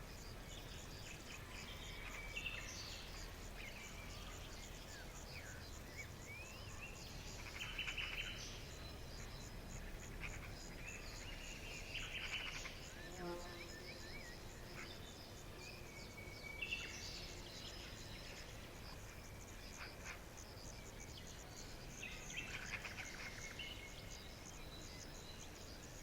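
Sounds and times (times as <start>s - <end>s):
birds chirping and trilling: 0.0s - 26.0s
pulsing insect chorus: 0.0s - 26.0s.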